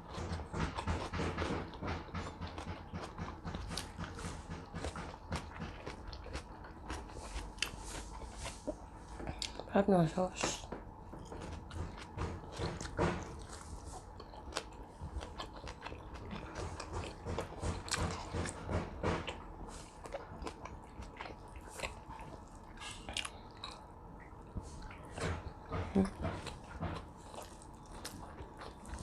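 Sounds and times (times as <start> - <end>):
person chewing food: 0.0 - 9.7, 10.6 - 29.0.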